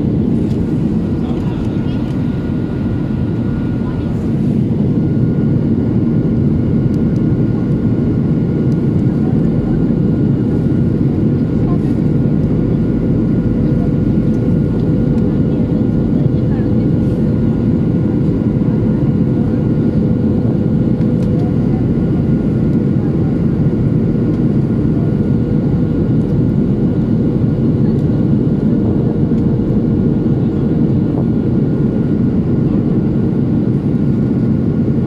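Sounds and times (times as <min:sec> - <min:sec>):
airplane cabin engine and airflow rush: 0:00.0 - 0:35.0.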